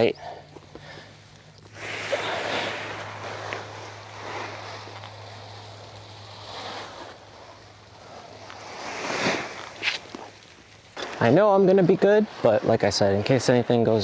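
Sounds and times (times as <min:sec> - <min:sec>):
paraglider wing rustling and rushing: 0:01.7 - 0:13.2.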